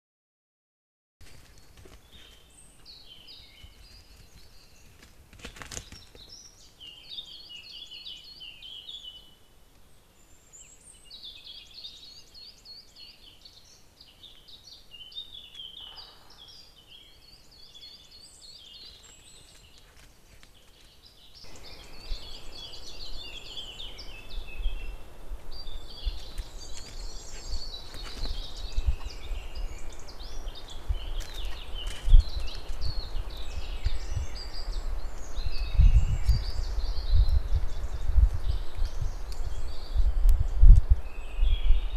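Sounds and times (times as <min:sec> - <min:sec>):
songbirds singing and chirping: 0:01.2 - 0:41.9.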